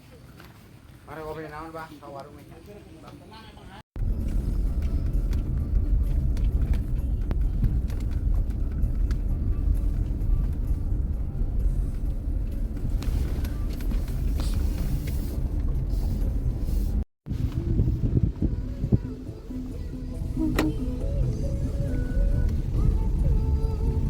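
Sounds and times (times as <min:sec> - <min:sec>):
motor vehicle rumble: 0:04.0 - 0:24.0.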